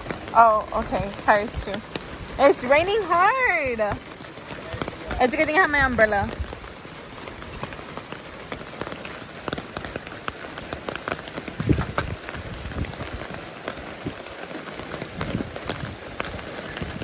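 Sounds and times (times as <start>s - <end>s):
rain tapping on umbrella: 0.0s - 17.0s.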